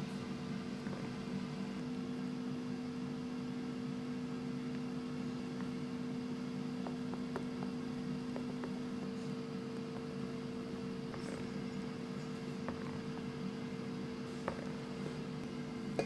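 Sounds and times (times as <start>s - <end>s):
air fryer humming: 0.0s - 16.0s.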